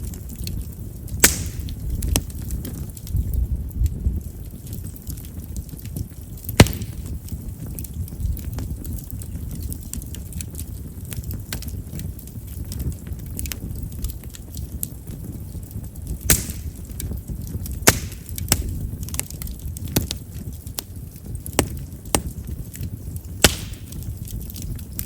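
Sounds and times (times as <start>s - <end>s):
firewood crackling and popping: 0.0s - 25.0s
low rumble of flame: 0.0s - 25.0s.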